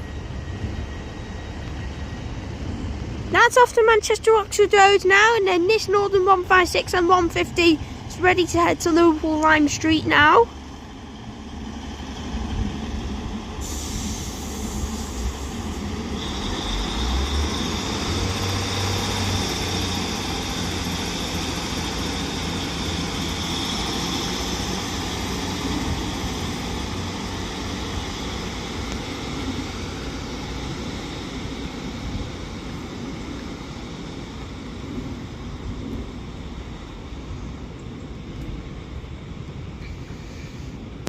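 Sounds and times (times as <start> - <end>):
diesel train engines pulling away: 0.0 - 41.0.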